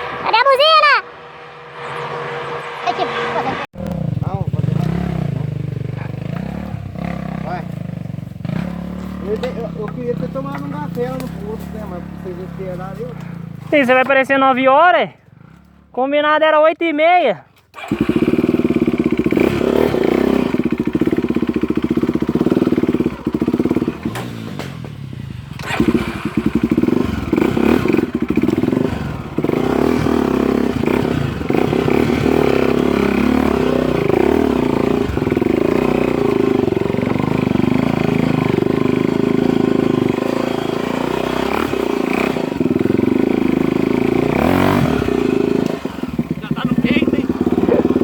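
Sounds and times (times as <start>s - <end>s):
dirt bike engine revving: 0.0s - 16.0s, 17.8s - 48.0s.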